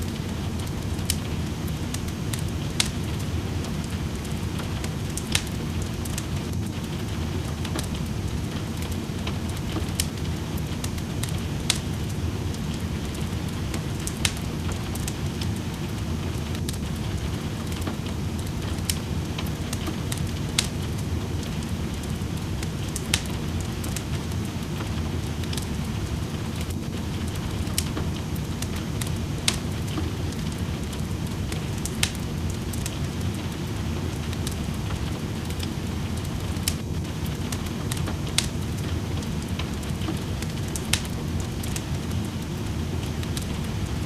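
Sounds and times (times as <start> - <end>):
rain hissing: 0.0 - 44.0
wood fire crackling and popping: 0.0 - 44.0.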